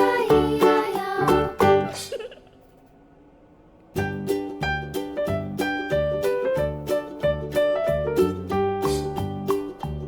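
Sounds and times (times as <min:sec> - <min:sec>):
bouncy instrumental children's music: 0:00.0 - 0:02.1, 0:04.0 - 0:10.0.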